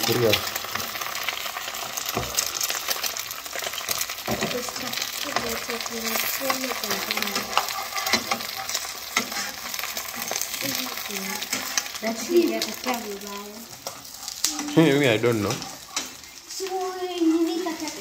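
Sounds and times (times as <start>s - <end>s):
eggs sizzling in a frying pan: 0.0s - 18.0s.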